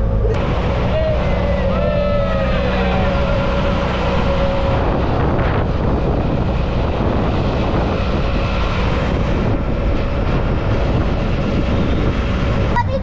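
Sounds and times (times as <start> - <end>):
small engine running: 0.0 - 12.8
road noise: 0.0 - 13.0
wind on microphone: 0.0 - 13.0.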